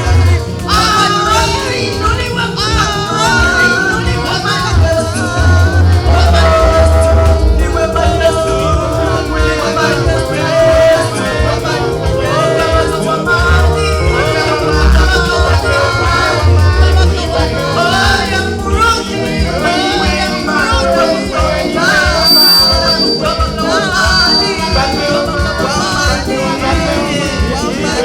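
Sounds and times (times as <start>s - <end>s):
band playing worship music: 0.0s - 28.0s
person singing: 0.0s - 28.0s
steady bass line: 0.0s - 28.0s.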